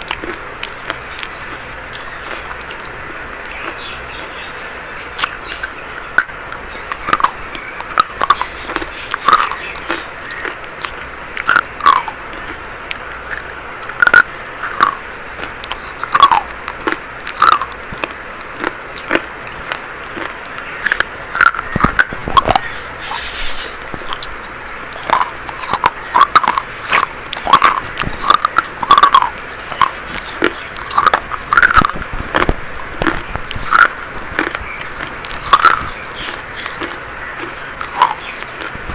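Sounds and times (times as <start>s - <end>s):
chalk crunching when chewed: 0.0s - 4.5s, 5.1s - 38.9s.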